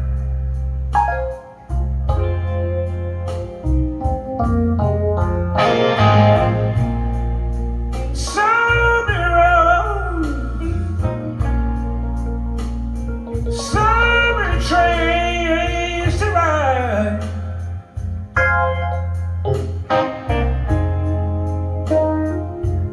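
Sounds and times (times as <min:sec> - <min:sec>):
blues song over loudspeakers: 0:00.0 - 0:22.9.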